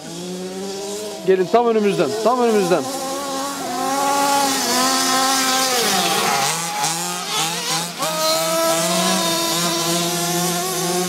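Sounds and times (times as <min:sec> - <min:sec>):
rc car engines buzzing: 0:00.0 - 0:11.0.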